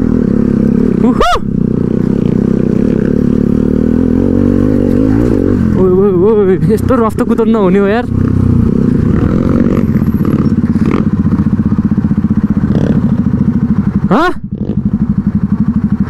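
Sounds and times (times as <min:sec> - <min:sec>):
motorcycle engine throbbing: 0:00.0 - 0:16.0.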